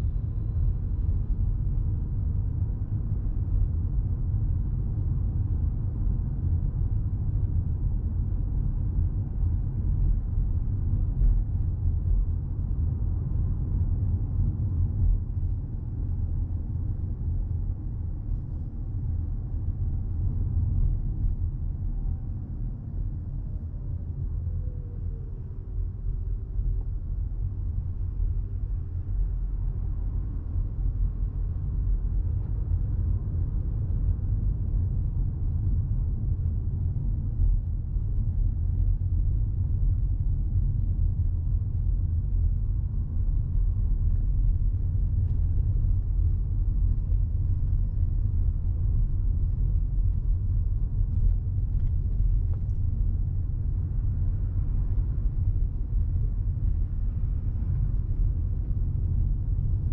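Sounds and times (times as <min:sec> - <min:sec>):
road and tyre rumble in car: 0:00.0 - 0:59.9.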